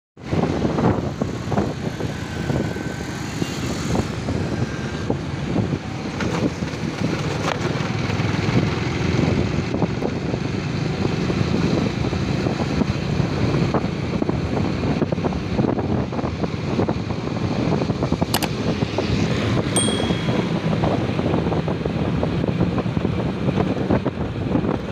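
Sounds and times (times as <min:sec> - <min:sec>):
wind buffeting microphone: 0:00.2 - 0:24.9.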